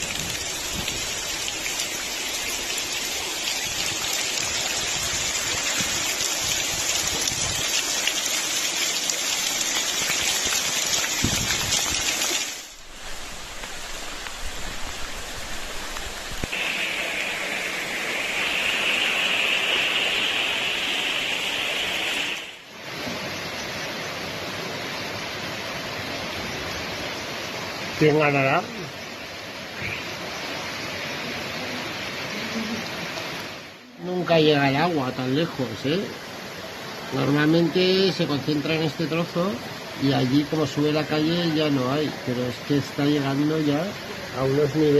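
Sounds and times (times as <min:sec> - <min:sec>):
floodwater rushing: 0:00.0 - 0:44.9
heavy rain pouring: 0:00.0 - 0:44.9.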